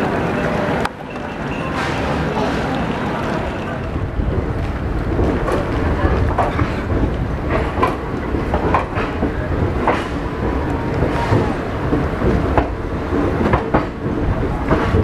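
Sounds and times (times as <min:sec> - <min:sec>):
train wheels rumbling: 0:00.0 - 0:15.0
wheels clanking over rail joints: 0:00.0 - 0:15.0.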